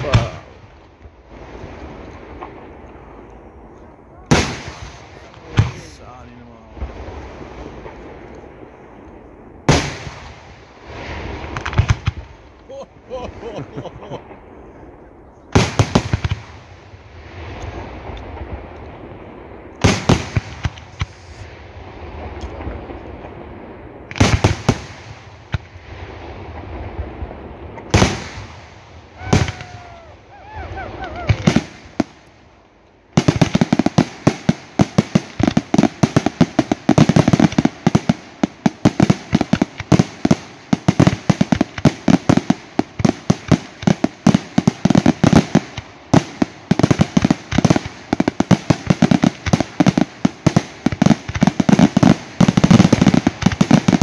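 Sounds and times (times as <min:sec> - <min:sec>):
rapid barrage of firework bangs: 0:00.0 - 0:03.1, 0:04.3 - 0:06.0, 0:09.6 - 0:12.6, 0:15.5 - 0:18.6, 0:19.8 - 0:32.4, 0:33.1 - 0:54.0.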